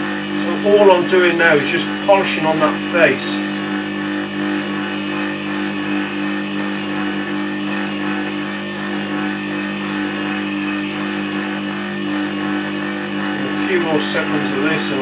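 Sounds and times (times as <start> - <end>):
wet stone sharpener motor humming: 0.0 - 15.0.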